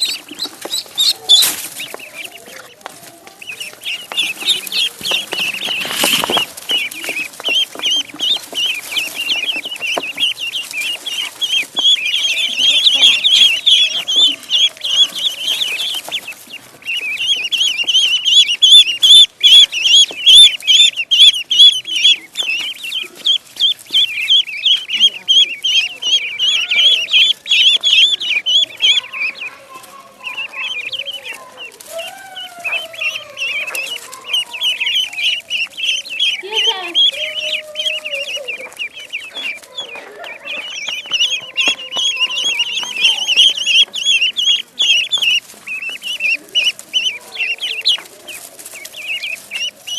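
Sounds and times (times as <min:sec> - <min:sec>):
ducklings peeping: 0:00.0 - 0:49.9.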